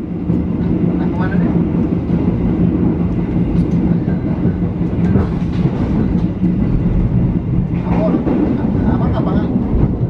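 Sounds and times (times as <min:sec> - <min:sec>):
train rumbling on track: 0:00.0 - 0:10.0
train wheels clicking on rails: 0:00.0 - 0:10.0.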